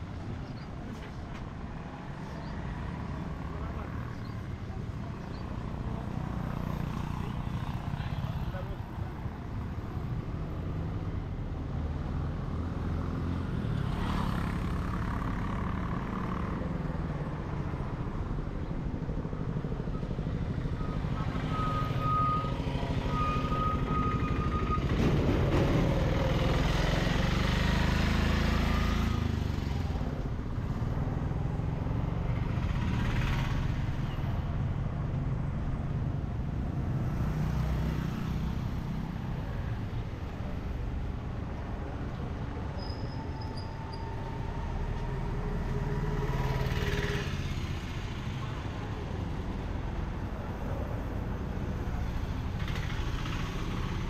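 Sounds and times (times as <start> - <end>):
truck passing by: 0.0 - 54.0.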